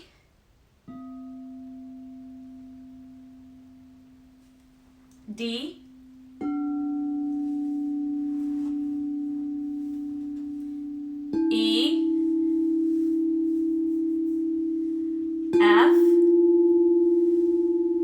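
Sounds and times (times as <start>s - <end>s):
crystal singing bowl ringing: 0.8s - 18.0s
higher singing bowl ringing: 0.9s - 18.0s.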